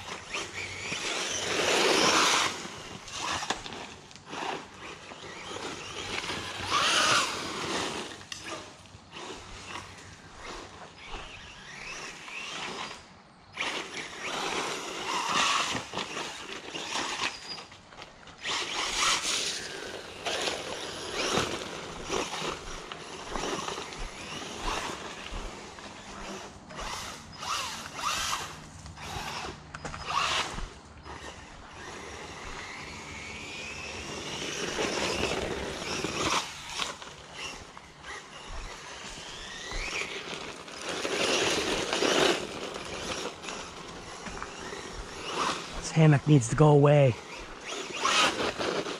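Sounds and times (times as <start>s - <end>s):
electric motor whining: 0.0s - 48.9s
tyres scrabbling on gravel: 0.0s - 48.9s.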